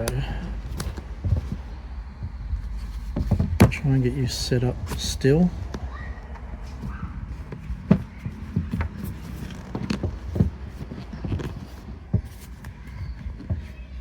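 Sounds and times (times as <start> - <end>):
objects knocking and clattering: 0.0 - 3.9, 4.8 - 14.0
steady low hum: 0.0 - 14.0.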